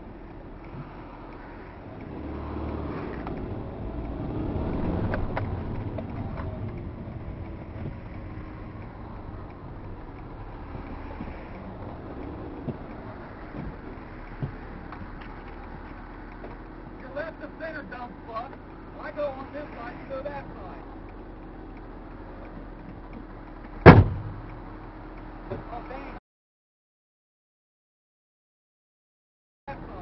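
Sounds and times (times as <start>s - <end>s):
car engine and tyres rumbling: 0.0s - 26.2s, 29.7s - 30.0s.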